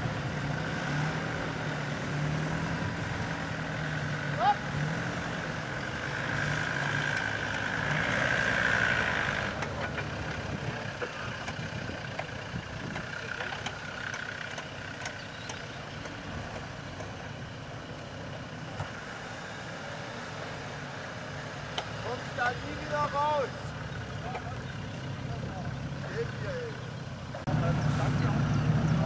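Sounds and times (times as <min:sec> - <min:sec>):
off-road vehicle engines with whine: 0:00.0 - 0:29.0.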